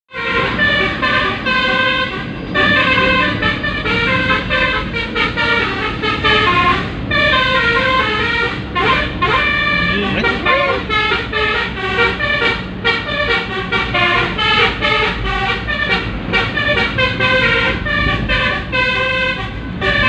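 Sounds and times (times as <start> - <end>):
multi-tone air horn melody: 0.1 - 20.0.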